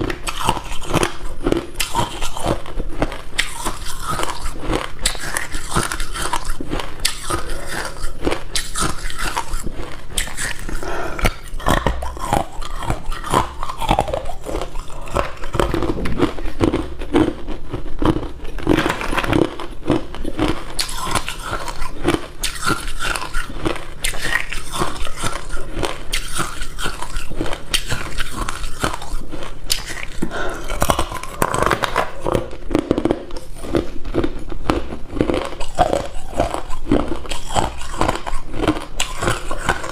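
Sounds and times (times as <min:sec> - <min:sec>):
person crunching ice cubes: 0:00.0 - 0:39.9.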